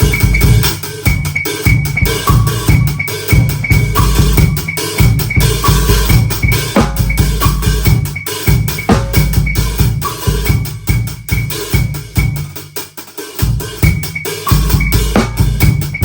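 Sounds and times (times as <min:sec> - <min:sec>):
electronic drum sounds: 0:00.0 - 0:16.0.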